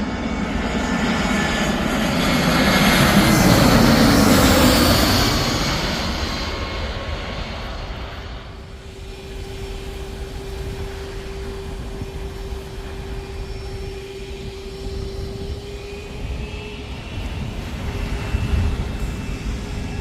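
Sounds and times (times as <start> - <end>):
jet airliner engine roar: 0.0 - 20.0
steady engine tone: 0.0 - 20.0.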